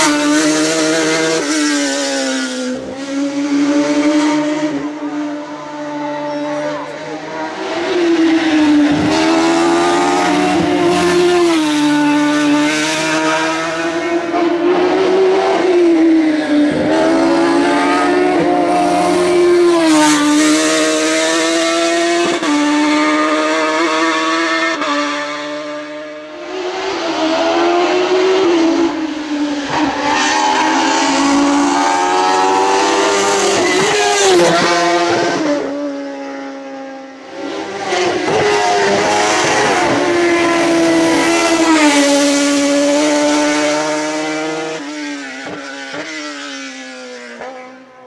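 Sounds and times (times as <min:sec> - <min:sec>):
car engine revving high: 0:00.0 - 0:47.8.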